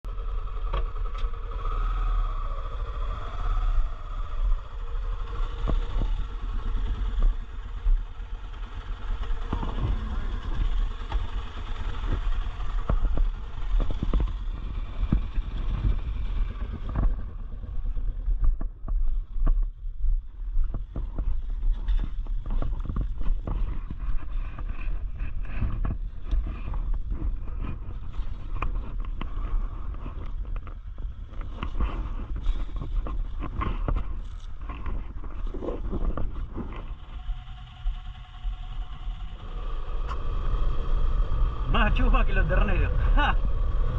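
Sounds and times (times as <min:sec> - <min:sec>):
motorcycle engine running: 0:00.0 - 0:43.9
wind rumble on microphone: 0:00.0 - 0:43.9.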